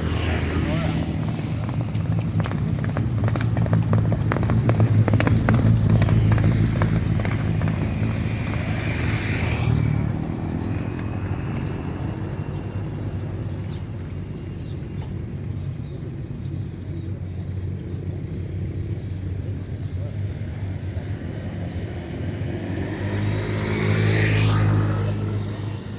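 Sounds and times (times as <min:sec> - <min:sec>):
motor engine humming: 0:00.0 - 0:22.4.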